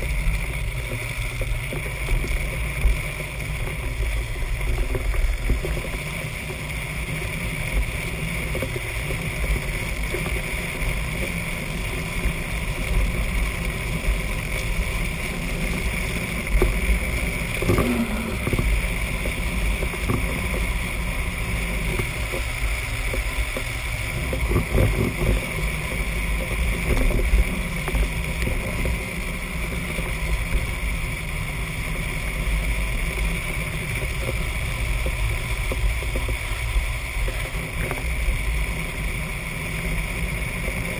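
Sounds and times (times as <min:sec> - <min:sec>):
wheels rolling on asphalt: 0:00.0 - 0:40.9.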